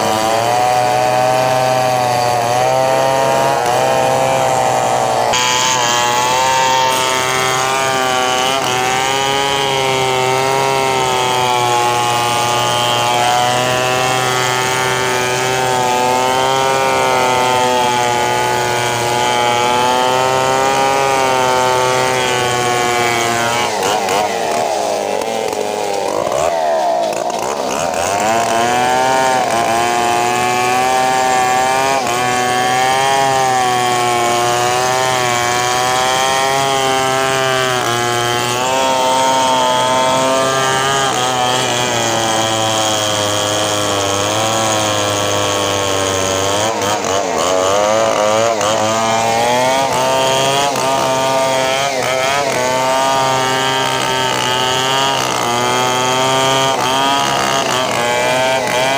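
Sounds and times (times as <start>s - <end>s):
chainsaw cutting through log: 0.0s - 58.9s.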